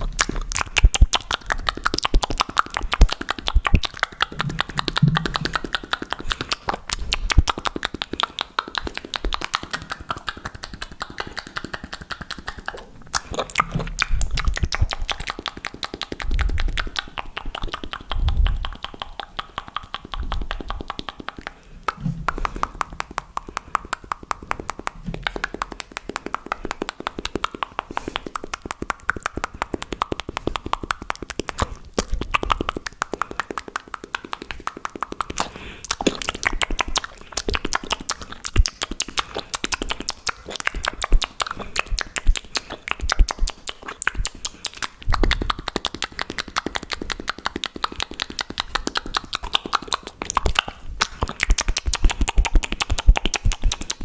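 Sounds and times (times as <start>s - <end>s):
wet mouth clicks and pops: 0.0s - 54.0s.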